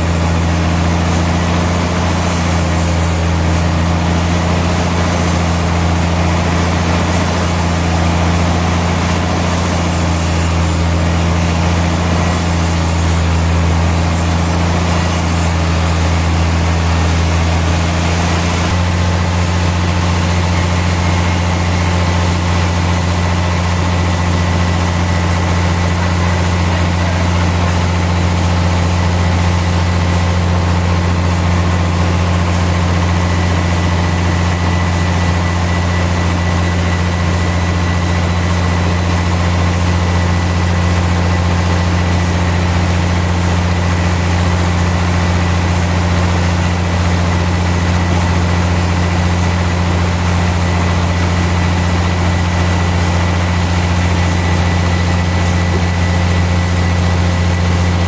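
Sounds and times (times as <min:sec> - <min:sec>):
sawmill engine hum: 0:00.0 - 0:58.0
thin high whine: 0:00.0 - 0:58.0.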